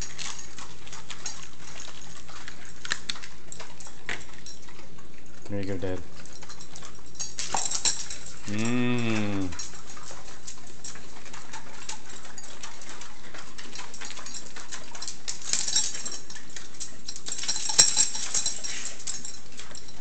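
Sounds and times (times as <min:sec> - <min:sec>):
claws clicking on tile floor: 0:00.0 - 0:20.0
dogs crunching sprouts: 0:00.0 - 0:20.0.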